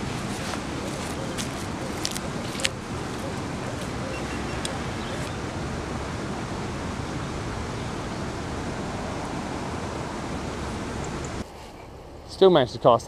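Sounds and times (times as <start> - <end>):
open-air rushing ambience: 0.0 - 13.0.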